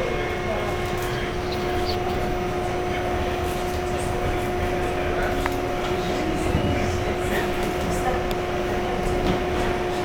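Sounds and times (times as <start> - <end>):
constant hum: 0.0 - 10.0
subway car running noise: 0.0 - 10.0.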